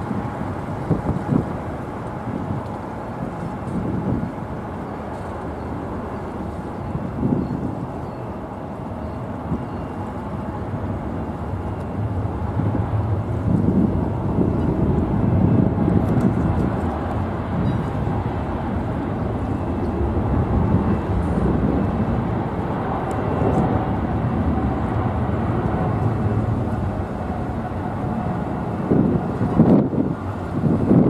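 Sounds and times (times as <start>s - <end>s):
jet engines low rumble: 0.0s - 31.0s.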